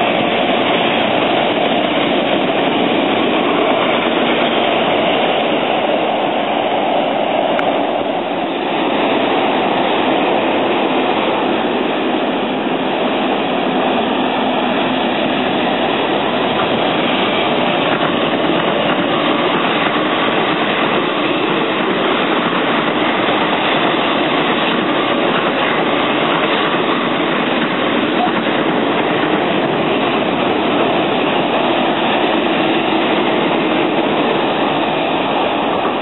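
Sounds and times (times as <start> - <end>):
electric train running past: 0.0 - 36.0.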